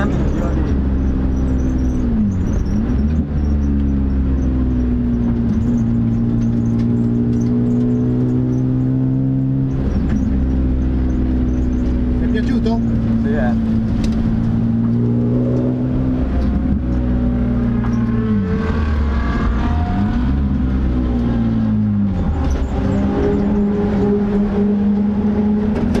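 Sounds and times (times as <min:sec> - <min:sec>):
car engine at low revs: 0:00.0 - 0:26.0.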